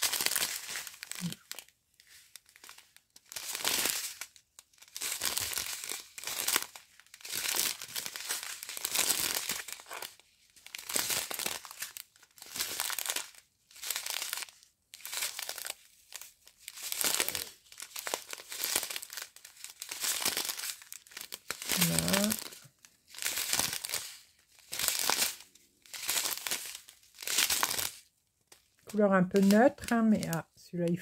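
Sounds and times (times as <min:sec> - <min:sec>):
plastic bags crinkling: 0:00.0 - 0:31.0.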